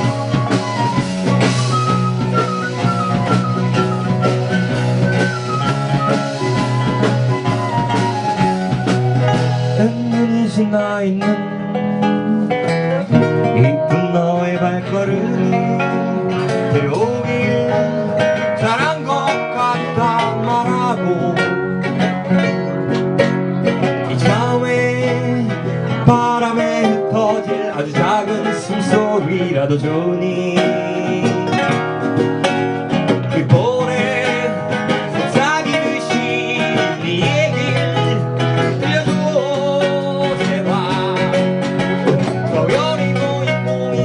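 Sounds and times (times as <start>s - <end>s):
plucked acoustic guitar: 0.0s - 44.0s
person singing: 6.4s - 23.0s, 24.0s - 32.2s, 33.1s - 44.0s.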